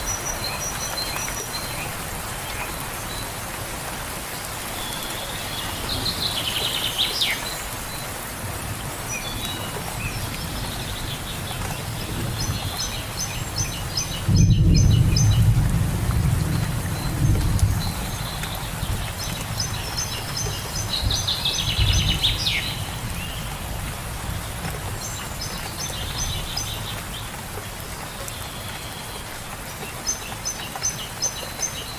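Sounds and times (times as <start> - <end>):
steady rain falling: 0.0 - 31.9
birds chirping: 4.2 - 15.6, 16.4 - 31.9.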